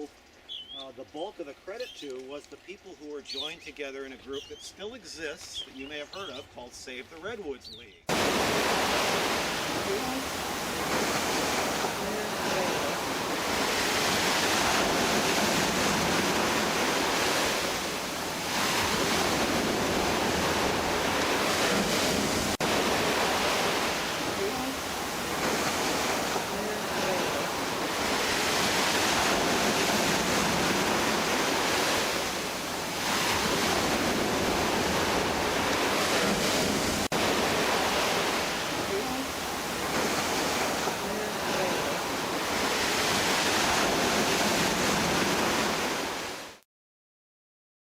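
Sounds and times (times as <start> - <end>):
ocean surf washing: 0.0 - 46.6.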